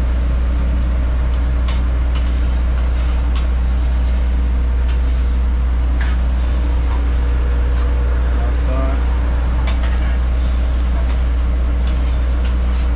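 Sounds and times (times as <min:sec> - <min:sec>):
low machine drone: 0:00.0 - 0:12.9.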